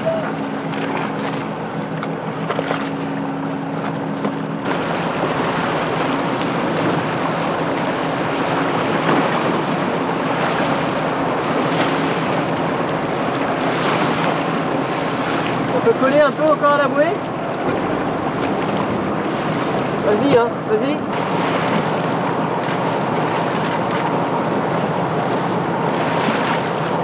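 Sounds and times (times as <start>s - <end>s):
low engine hum: 0.0s - 27.0s
water splashing: 0.0s - 27.0s.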